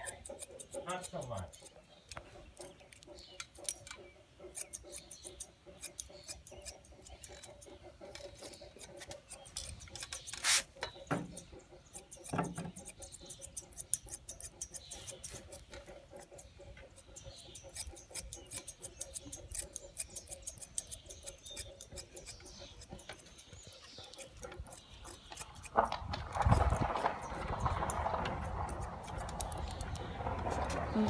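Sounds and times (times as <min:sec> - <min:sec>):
shears snipping hair: 0:00.0 - 0:01.8, 0:02.6 - 0:31.0.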